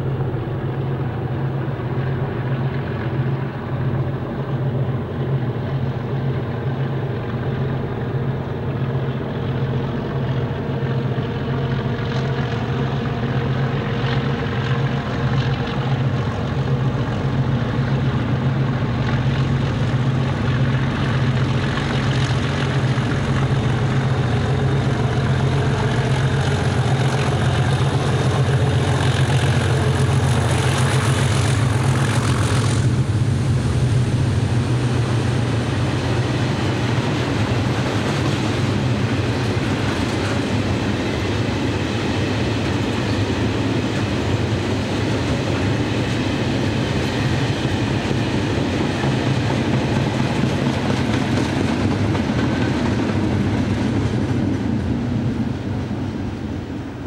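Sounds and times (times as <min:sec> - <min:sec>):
diesel locomotives droning: 0:00.0 - 0:57.0.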